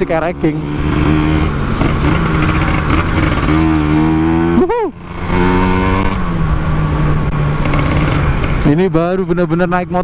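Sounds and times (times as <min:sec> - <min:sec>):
two-stroke motorcycle engine revving: 0:00.0 - 0:10.0.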